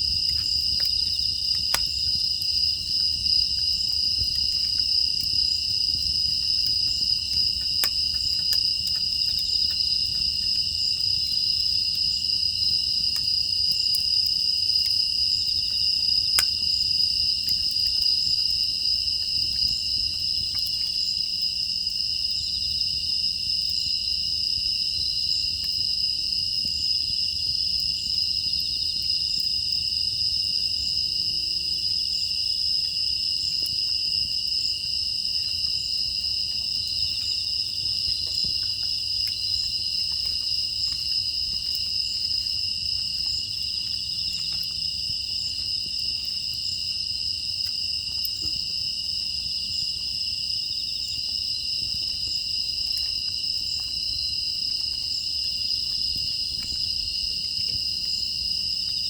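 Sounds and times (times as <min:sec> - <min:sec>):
wood fire crackling: 0:00.0 - 0:31.2, 0:32.0 - 0:50.4
crickets chirring: 0:00.0 - 0:59.0.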